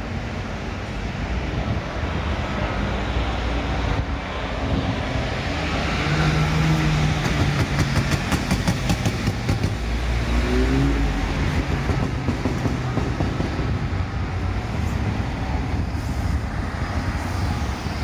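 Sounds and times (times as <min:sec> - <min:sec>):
buses and cars driving past: 0:00.0 - 0:18.0.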